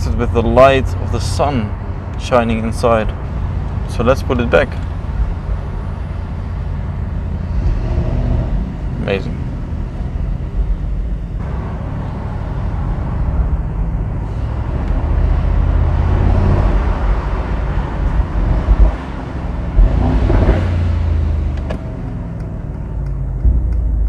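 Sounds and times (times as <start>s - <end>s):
car engine under way: 0.0s - 24.0s
road noise: 0.0s - 24.0s.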